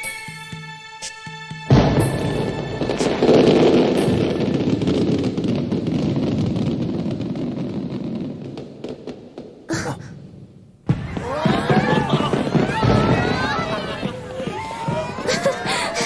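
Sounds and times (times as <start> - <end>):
fireworks bursting: 1.7 - 16.0.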